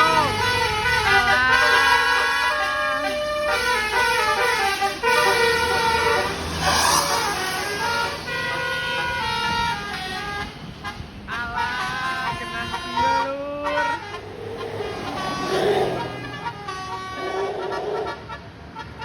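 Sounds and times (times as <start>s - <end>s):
bus musical horn melody: 0.0s - 19.0s.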